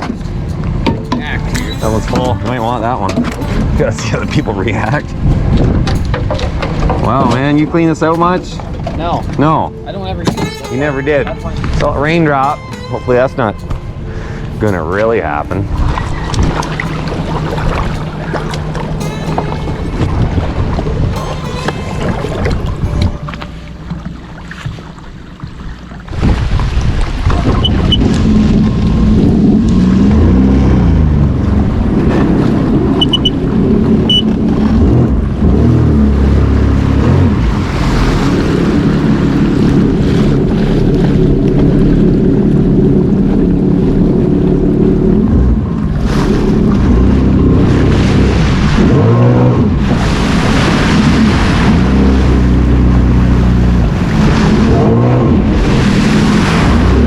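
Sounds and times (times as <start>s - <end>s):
personal watercraft engine revving: 0.0s - 57.0s
water rushing against hull: 0.0s - 57.0s.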